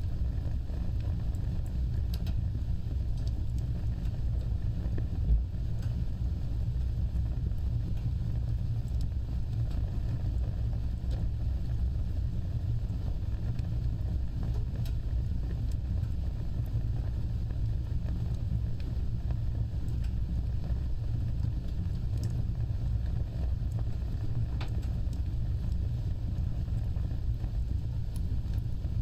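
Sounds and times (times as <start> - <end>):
fire crackling: 0.0 - 29.0
low rumble of flames: 0.0 - 29.0.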